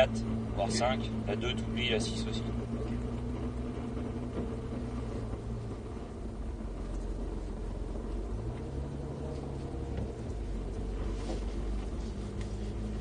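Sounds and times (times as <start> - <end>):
car engine at low revs: 0.0 - 13.0.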